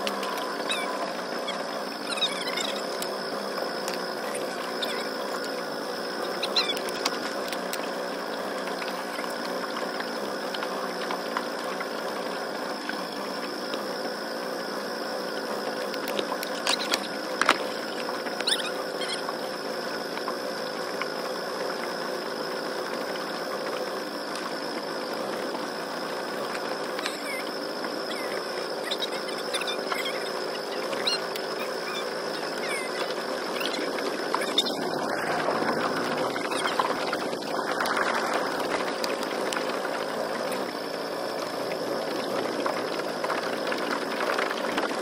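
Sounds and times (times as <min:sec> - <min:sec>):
small boat motor buzzing: 0:00.0 - 0:45.0.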